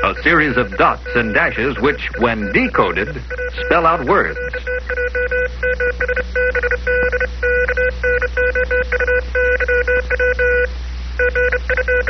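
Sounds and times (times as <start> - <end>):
morse code radio beeps: 0.0 - 12.0
steady low hum: 0.0 - 12.0.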